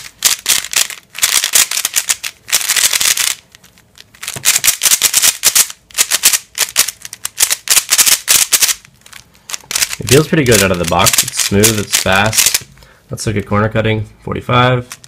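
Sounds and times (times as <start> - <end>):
puzzle cube clicking and rattling: 0.0 - 12.7.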